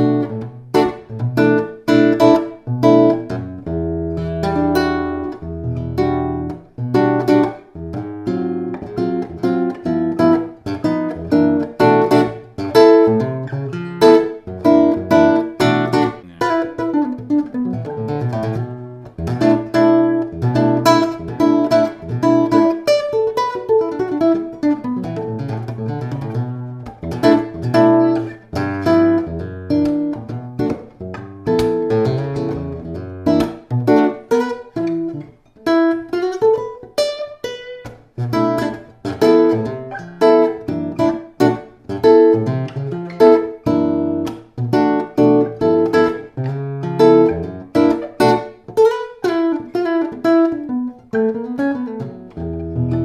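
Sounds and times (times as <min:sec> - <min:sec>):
nylon-string guitar playing: 0:00.0 - 0:53.0.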